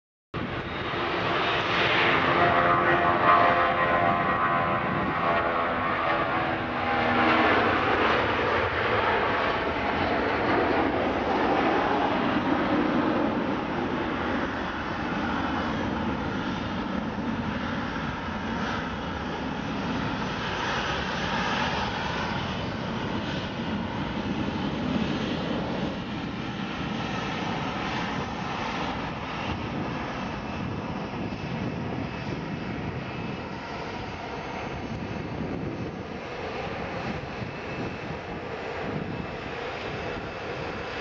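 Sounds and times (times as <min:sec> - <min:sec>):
jet engines rumbling: 0:00.4 - 0:41.0.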